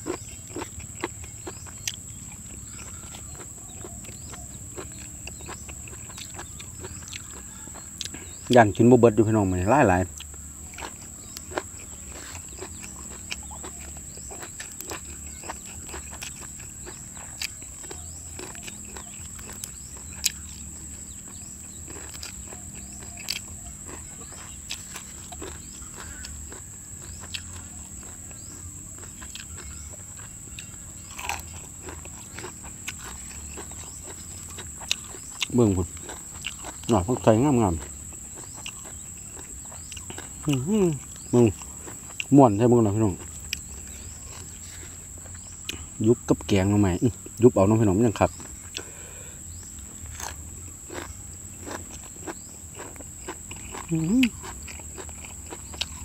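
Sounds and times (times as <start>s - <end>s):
man chewing with mouth smacks: 0.0s - 47.4s, 48.2s - 56.0s
high drone of insects: 0.0s - 56.0s.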